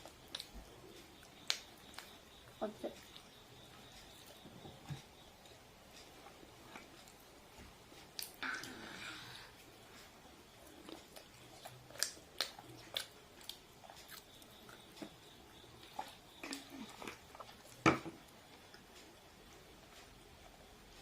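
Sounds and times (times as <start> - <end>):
fried chicken being chewed: 0.0 - 7.3, 9.5 - 21.0.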